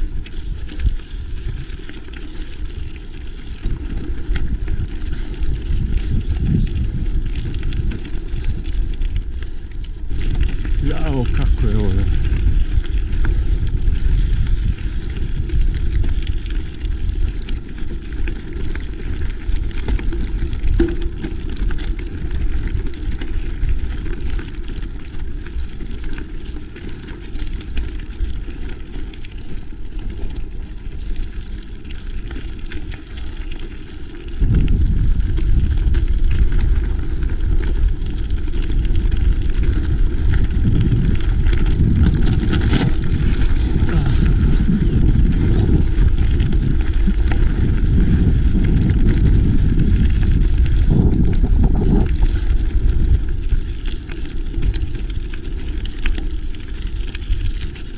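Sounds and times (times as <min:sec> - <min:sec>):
bike tires rolling on trail: 0:00.0 - 0:57.9
wind rumbling on microphone: 0:00.0 - 0:57.9.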